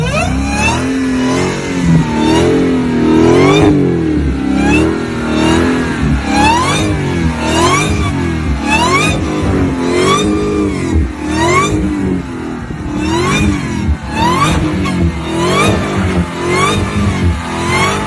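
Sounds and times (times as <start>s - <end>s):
car engine revving: 0.0s - 18.0s
supercharger whine: 0.0s - 18.0s.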